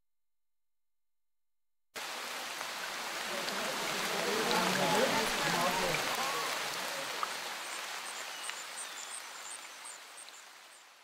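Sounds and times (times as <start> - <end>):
steady rain: 2.0 - 11.0.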